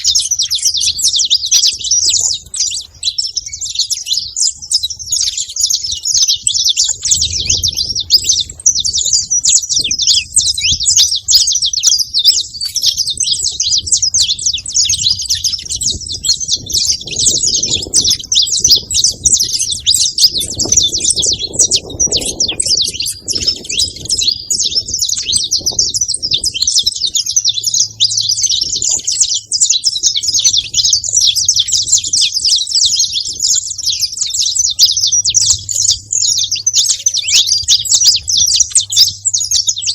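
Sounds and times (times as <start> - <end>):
finch chirping and singing: 0.0 - 39.9.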